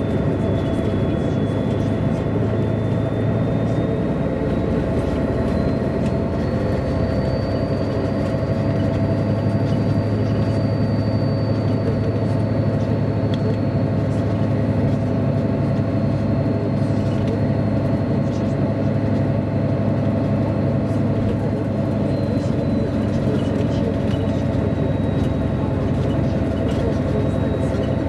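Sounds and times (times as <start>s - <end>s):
bus engine humming inside bus: 0.0s - 28.0s.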